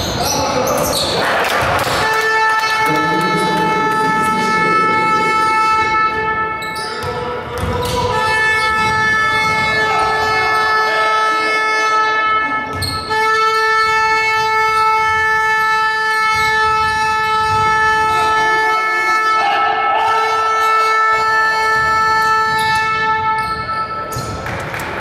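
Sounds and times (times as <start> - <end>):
horn blasts: 1.9 - 7.4, 8.0 - 23.6.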